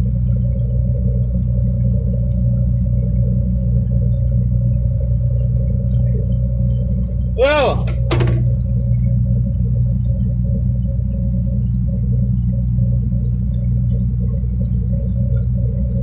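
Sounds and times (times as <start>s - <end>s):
engine low hum: 0.0s - 16.0s.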